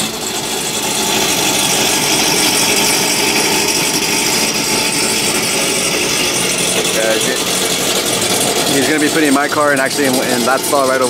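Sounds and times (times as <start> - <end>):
car engine and exhaust running: 0.0 - 11.0.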